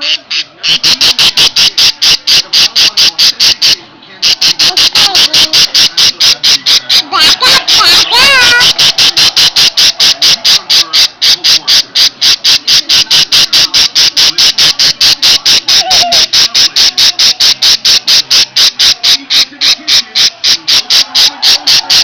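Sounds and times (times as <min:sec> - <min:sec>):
parakeet alarm chirps: 0:00.0 - 0:22.0.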